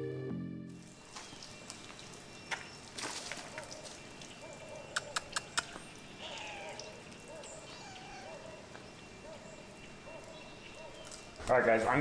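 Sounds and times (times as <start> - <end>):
bird calling: 0.8 - 11.4.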